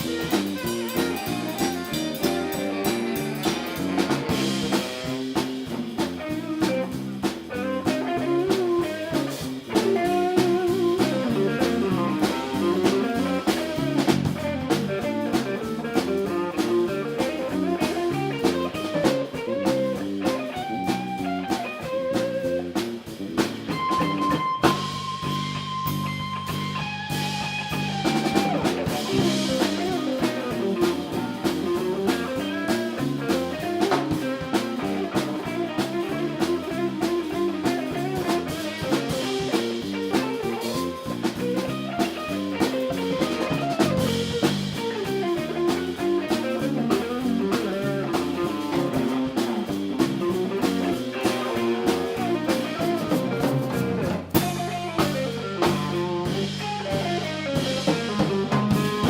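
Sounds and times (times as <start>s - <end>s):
drum kit beat: 0.0s - 59.0s
guitar lines: 0.0s - 59.0s.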